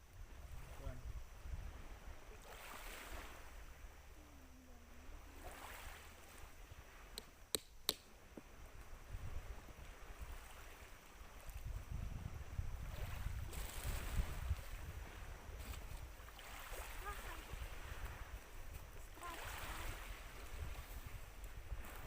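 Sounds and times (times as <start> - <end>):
wind rumbling on microphone: 0.0 - 7.5, 8.1 - 22.0
sea waves washing in: 0.2 - 7.5, 8.1 - 22.0.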